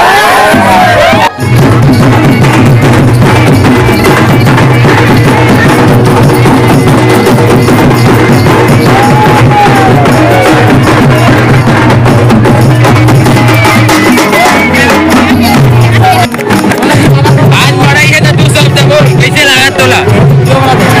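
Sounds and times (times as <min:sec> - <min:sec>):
fast dense folk drumming: 0:00.0 - 0:21.0.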